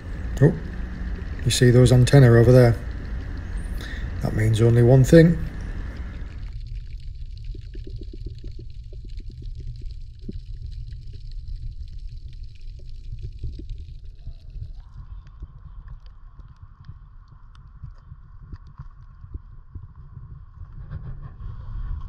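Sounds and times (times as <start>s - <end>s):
underwater rumble of moving water: 0.0s - 22.0s.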